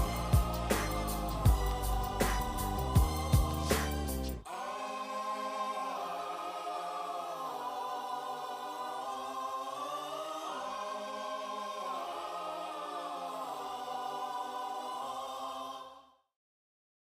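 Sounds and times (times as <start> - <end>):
choir singing held chords: 0.0 - 16.2.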